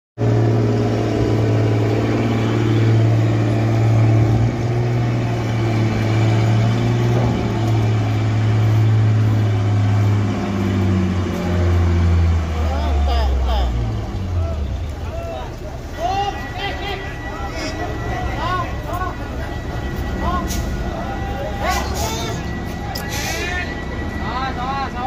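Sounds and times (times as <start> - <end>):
truck diesel engine running hard: 0.2 - 25.0.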